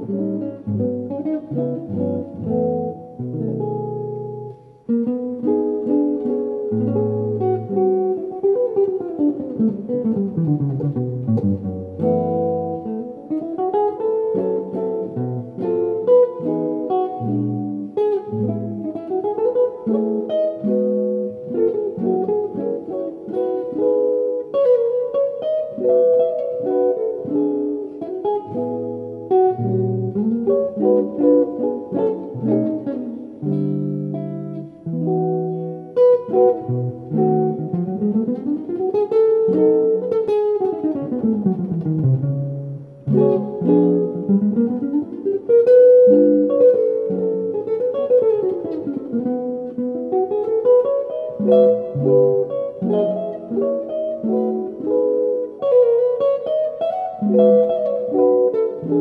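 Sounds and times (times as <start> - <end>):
solo jazz guitar: 0.0 - 59.0.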